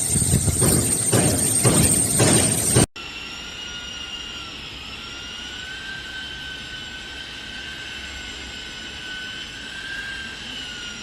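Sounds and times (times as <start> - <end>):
mechanical whine: 0.0 - 11.0.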